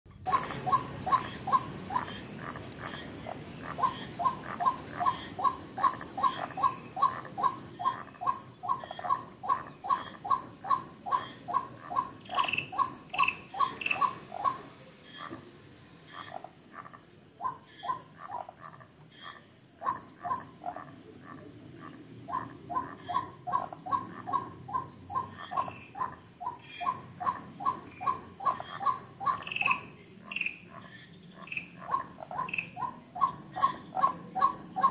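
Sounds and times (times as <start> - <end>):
waterhen calling: 0.2 - 34.9.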